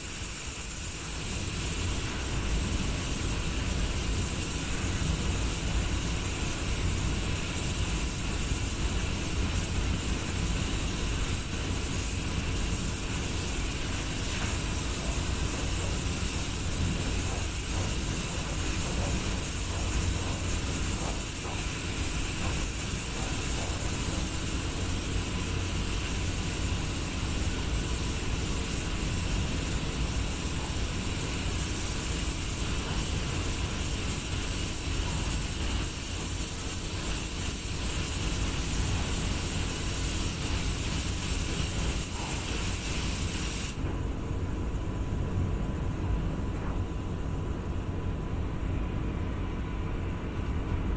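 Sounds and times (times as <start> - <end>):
spray gun air hiss: 0.0 - 43.9
ventilation rumble: 0.0 - 50.9.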